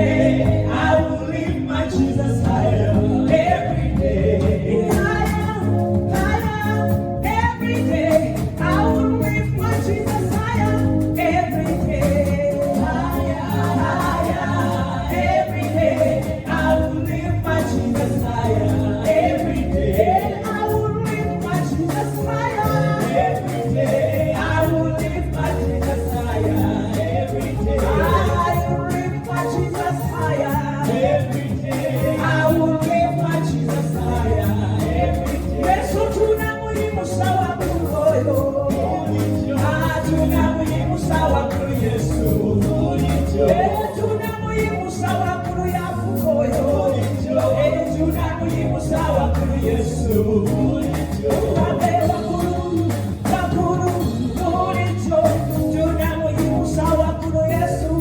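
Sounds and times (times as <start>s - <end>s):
band with bass and percussion: 0.0s - 58.0s
voices singing: 0.0s - 58.0s.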